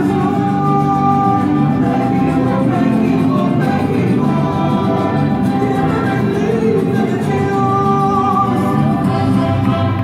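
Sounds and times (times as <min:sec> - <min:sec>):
loud music with long held notes: 0:00.0 - 0:10.0.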